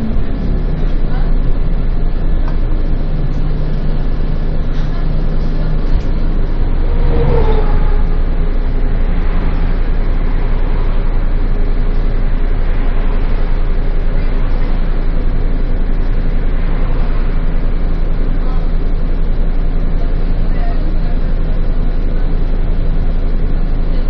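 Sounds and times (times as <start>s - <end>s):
bus engine and road rumble: 0.0s - 24.0s
high engine whine: 0.0s - 24.0s.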